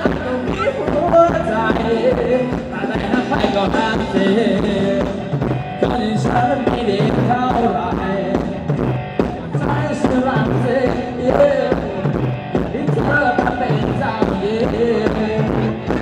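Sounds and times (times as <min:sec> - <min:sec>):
live dance band music: 0:00.0 - 0:16.0.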